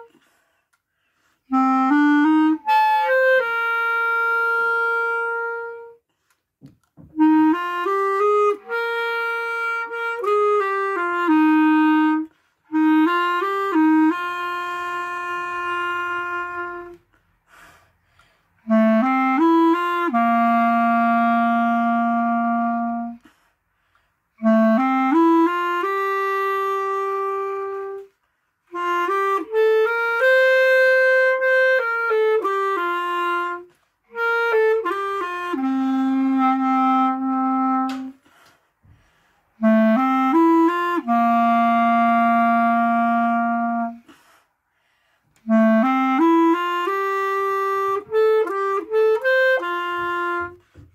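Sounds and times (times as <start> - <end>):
solo clarinet melody: 0.0 - 0.3, 1.0 - 50.9.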